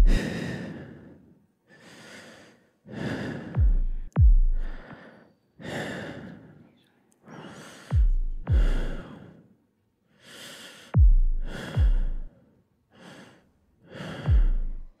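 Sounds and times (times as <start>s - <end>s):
breathy sighs: 0.0s - 15.0s.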